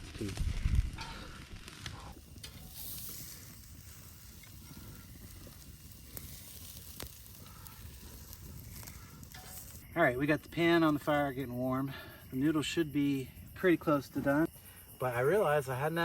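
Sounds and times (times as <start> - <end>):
campfire crackling: 0.0 - 16.0
fire popping: 0.0 - 16.0.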